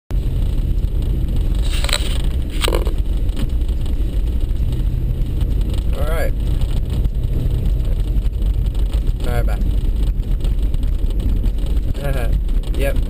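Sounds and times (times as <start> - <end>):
tyres on snowy road: 0.1 - 13.0
vehicle engine rumble: 0.1 - 13.0.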